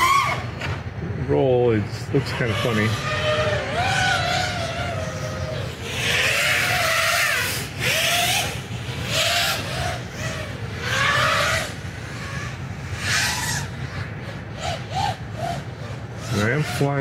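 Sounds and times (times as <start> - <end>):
quadcopter motors whining: 0.0 - 17.0
rushing propeller noise: 0.0 - 17.0.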